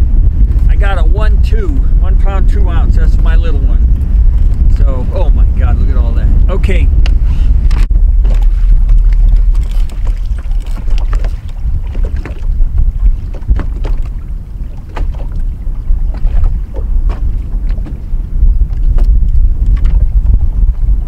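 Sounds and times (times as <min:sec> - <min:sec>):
wind buffeting microphone: 0:00.0 - 0:21.0
water slapping against hull: 0:00.1 - 0:21.0.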